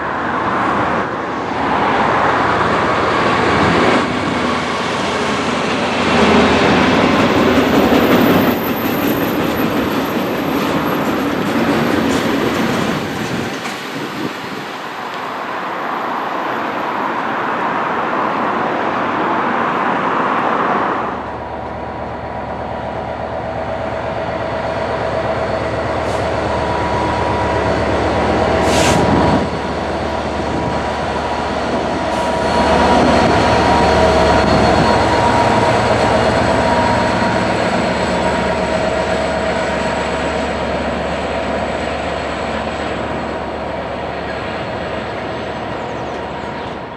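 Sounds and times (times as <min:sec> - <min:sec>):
train whining tones: 0:00.0 - 0:15.2, 0:21.1 - 0:46.9
train wheels on rails: 0:00.0 - 0:46.9.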